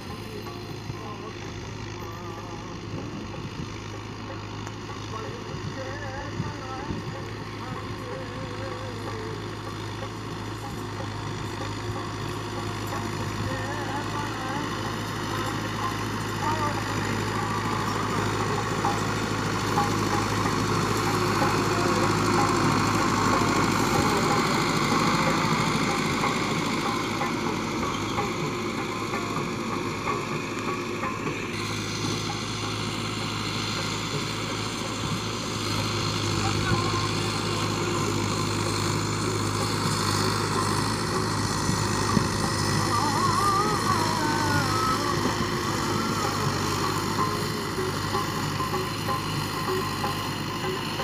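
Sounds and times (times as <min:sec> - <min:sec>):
diesel tractor engine under load: 0:00.0 - 0:51.0.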